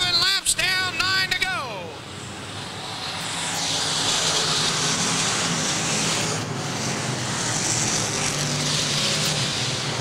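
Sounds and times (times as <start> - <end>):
race car engines rumbling: 0.0 - 10.0.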